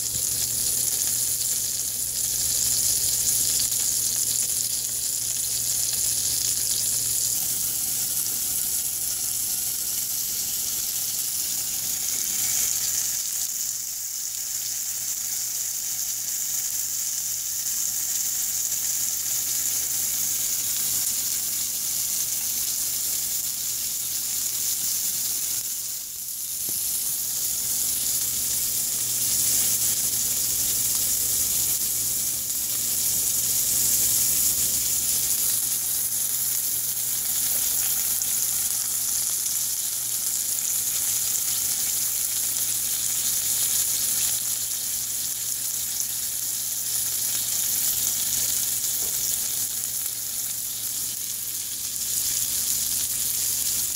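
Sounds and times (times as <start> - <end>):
sandwich sizzling in a frying pan: 0.0 - 53.9.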